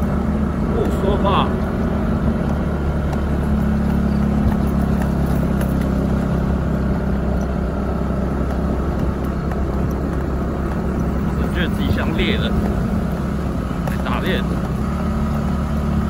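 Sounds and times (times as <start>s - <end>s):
motorbike engine running: 0.0s - 16.0s
road and wind noise: 0.0s - 16.0s.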